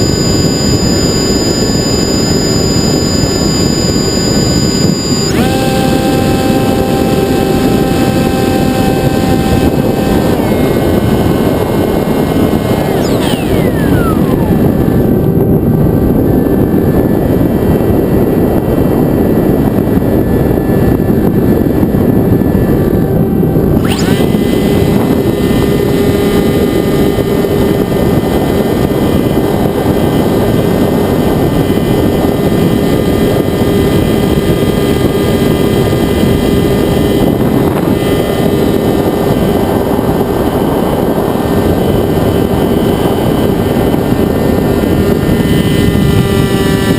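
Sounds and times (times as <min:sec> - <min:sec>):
electric motor and propeller: 0:00.0 - 0:46.9
wind rushing: 0:00.0 - 0:46.9.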